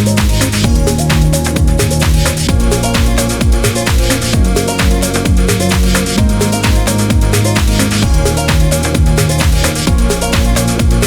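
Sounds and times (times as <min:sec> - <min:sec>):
deep bass line: 0:00.0 - 0:11.0
electronic music with fast beat: 0:00.0 - 0:11.0.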